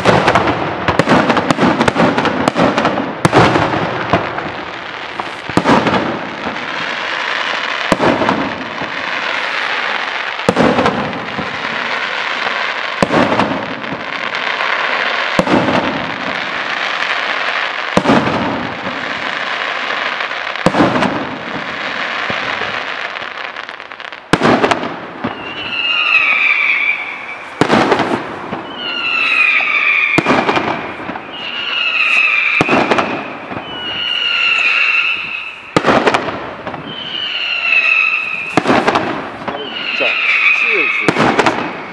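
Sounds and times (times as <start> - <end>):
firework crackling: 0.0 - 41.9
whistling fireworks: 0.0 - 41.9.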